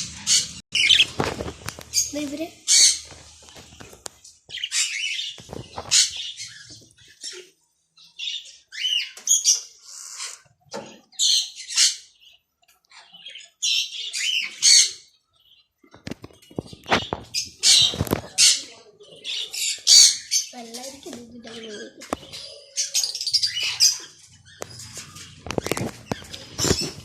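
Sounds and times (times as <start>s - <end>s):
pet birds squawking and chirping: 0.0s - 27.0s.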